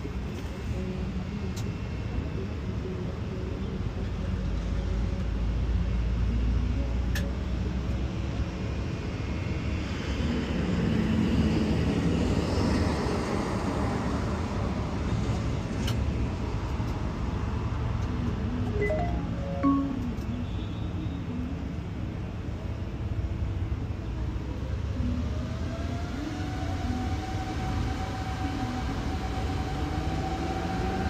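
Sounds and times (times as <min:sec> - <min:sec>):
traffic rumble: 0:00.0 - 0:26.2
wind: 0:00.0 - 0:31.0.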